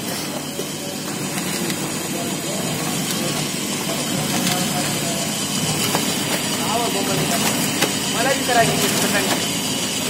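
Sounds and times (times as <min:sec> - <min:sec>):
packing machine hum: 0:00.0 - 0:10.0.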